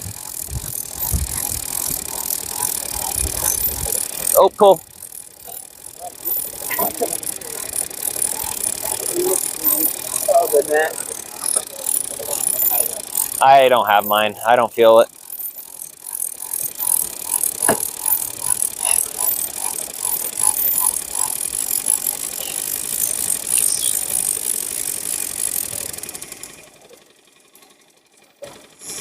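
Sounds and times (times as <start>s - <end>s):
fishing reel ratcheting click: 0.0s - 14.3s, 14.9s - 26.6s.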